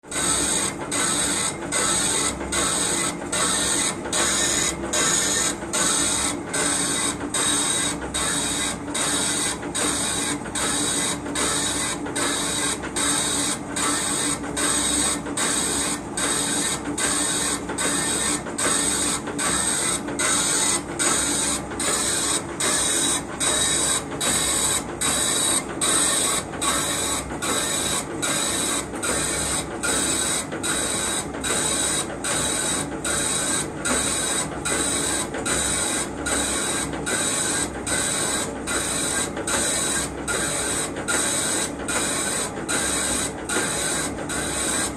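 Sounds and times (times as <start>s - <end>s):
metal-cutting machine: 0.1s - 44.9s.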